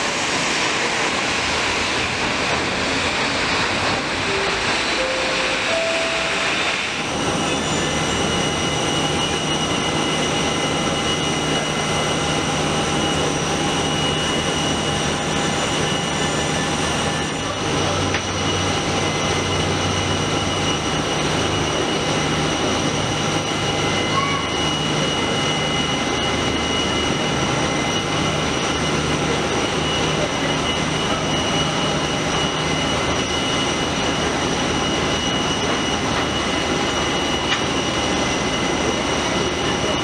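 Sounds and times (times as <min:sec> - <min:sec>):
constant rush of noise: 0:00.0 - 0:40.0
jet airliner high whine: 0:00.0 - 0:40.0.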